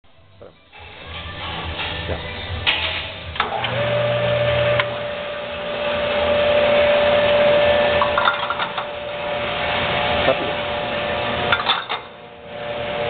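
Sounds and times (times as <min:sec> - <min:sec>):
pump motor whining: 0:00.7 - 0:13.0.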